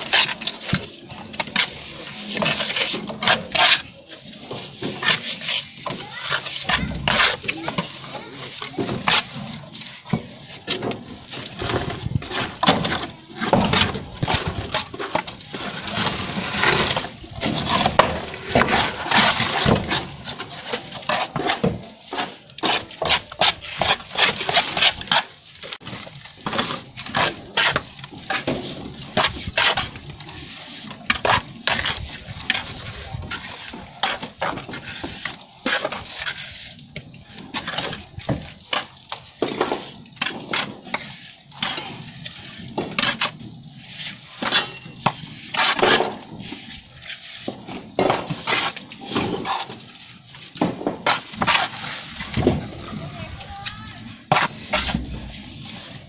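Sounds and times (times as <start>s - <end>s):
trowel scraping and slapping mortar: 0.0s - 56.0s.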